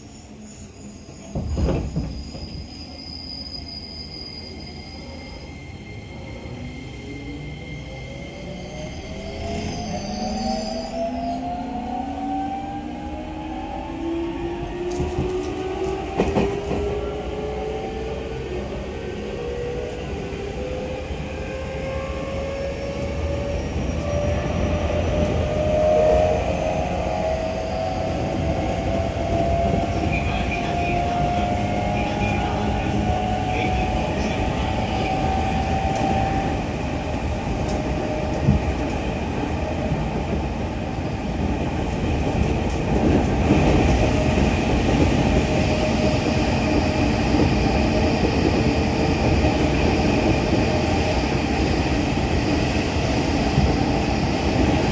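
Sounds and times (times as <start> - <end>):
train wheels on rail: 0.0 - 54.9.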